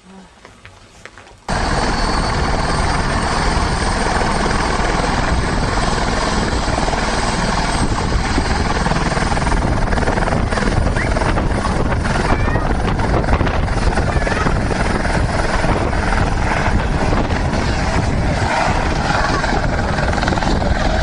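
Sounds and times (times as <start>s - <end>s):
helicopter rotor and engine: 1.5s - 21.0s.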